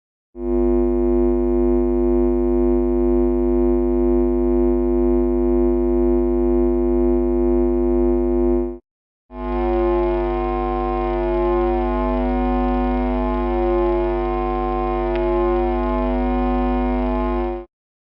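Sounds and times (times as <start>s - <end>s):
amplifier hum-buzz: 0.4s - 17.7s.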